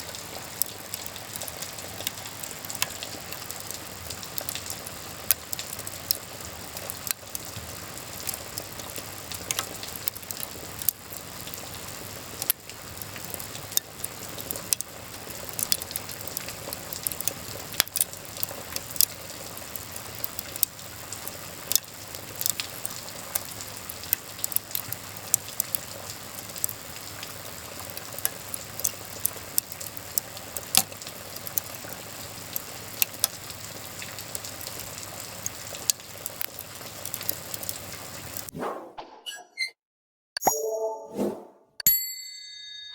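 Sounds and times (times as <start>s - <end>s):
wood fire crackling and popping: 0.0s - 38.5s.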